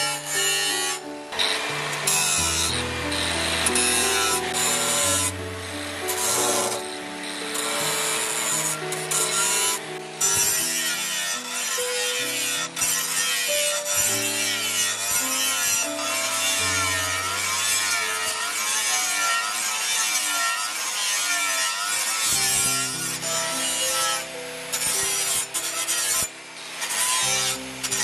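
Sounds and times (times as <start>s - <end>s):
background music: 0.0s - 21.2s, 22.4s - 28.0s
angle grinder grinding steel: 0.0s - 28.0s.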